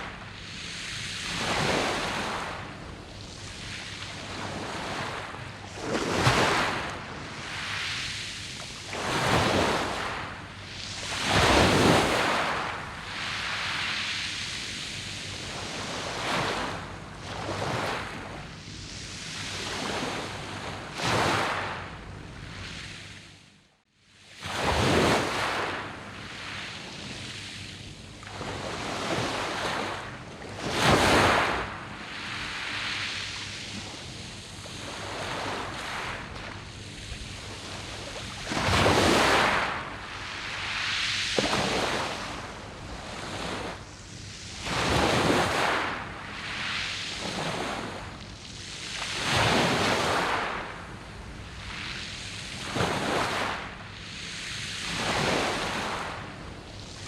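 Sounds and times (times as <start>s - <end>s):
waves washing over pebbles: 0.0s - 18.3s, 24.4s - 27.7s, 28.3s - 57.0s.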